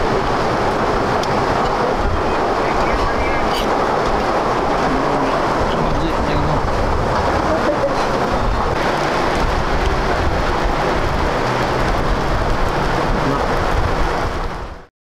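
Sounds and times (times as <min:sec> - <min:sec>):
loud rushing noise: 0:00.0 - 0:14.9.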